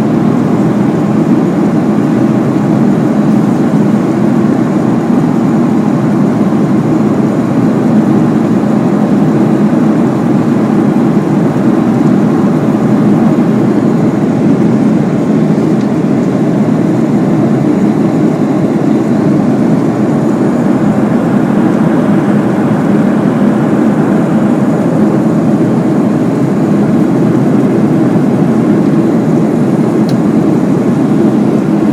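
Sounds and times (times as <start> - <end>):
airplane engine drone: 0.0 - 31.9
rushing air: 0.0 - 31.9.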